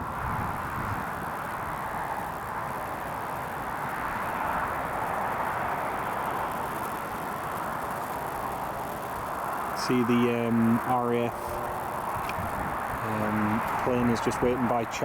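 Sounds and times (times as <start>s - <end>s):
distant jet rushing noise: 0.0s - 15.0s.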